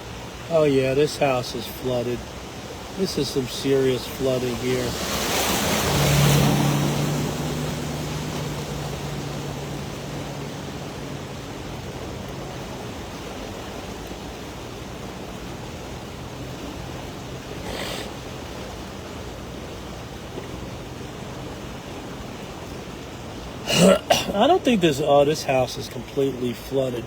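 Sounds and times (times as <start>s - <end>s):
low engine hum: 0.0s - 27.0s
water and road noise: 0.0s - 27.0s
water splashing: 0.0s - 27.0s.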